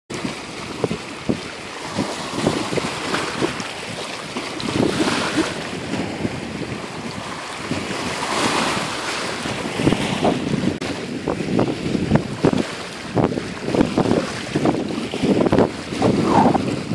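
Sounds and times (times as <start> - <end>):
small waves lapping shore: 0.1 - 16.9
wind buffeting microphone: 0.1 - 16.9.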